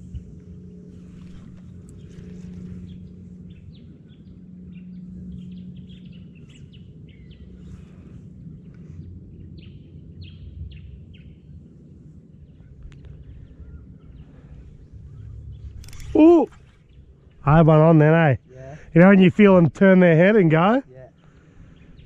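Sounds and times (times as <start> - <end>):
steady low hum: 0.0 - 22.0
small birds chirping: 1.1 - 11.6, 12.4 - 19.1, 21.0 - 22.0.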